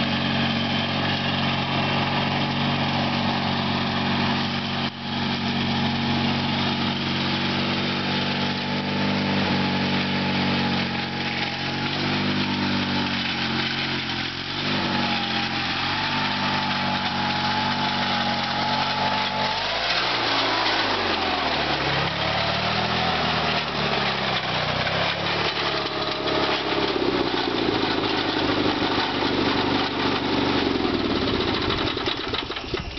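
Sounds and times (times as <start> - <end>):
garden tractor engine mowing: 0.0 - 32.9.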